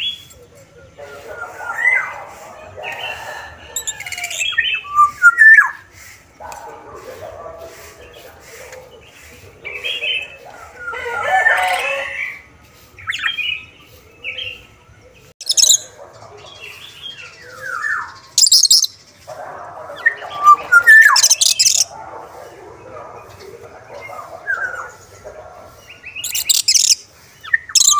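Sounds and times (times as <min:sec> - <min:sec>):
oriole calling: 0:00.0 - 0:27.9.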